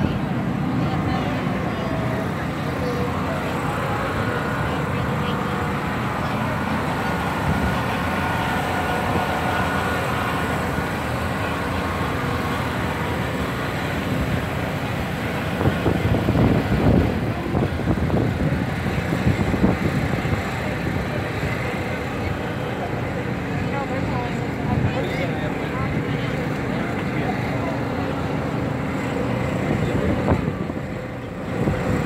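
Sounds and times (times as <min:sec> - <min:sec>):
generators and engines rumbling: 0:00.0 - 0:32.0.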